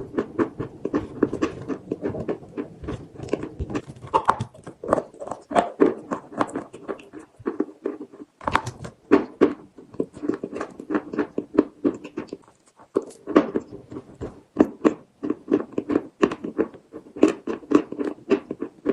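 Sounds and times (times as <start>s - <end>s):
chalk crunching and chewing: 0.0s - 18.9s.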